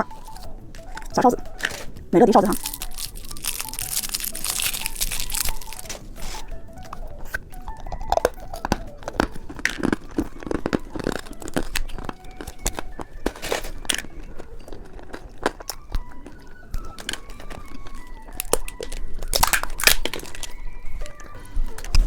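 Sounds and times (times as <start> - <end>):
candy crunching and clicking: 0.0 - 22.0
plastic wrapper crinkling: 0.0 - 22.0.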